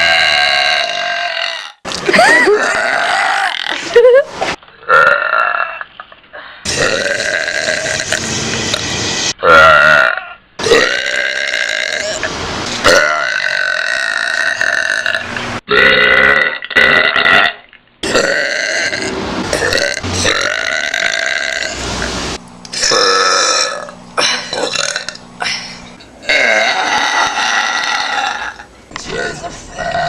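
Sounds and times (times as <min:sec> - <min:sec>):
person burping loudly: 0:00.0 - 0:04.0, 0:04.8 - 0:05.9, 0:06.6 - 0:08.3, 0:09.4 - 0:21.8, 0:22.7 - 0:25.5, 0:26.2 - 0:30.0.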